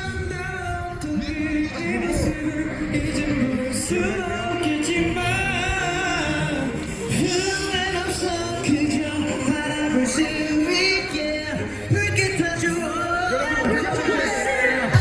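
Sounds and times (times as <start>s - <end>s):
amplified pop backing music: 0.0s - 15.0s
person singing live: 0.0s - 15.0s.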